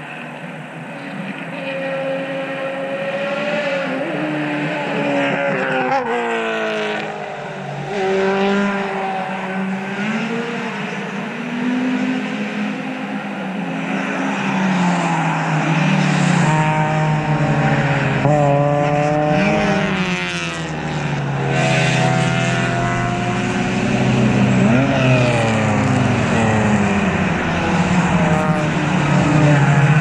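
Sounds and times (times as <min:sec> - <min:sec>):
race cars passing: 0:00.0 - 0:30.0.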